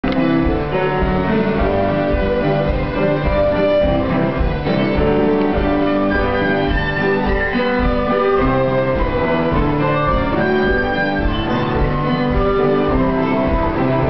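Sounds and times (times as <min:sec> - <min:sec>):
fiddle-led folk band playing: 0:00.0 - 0:14.0.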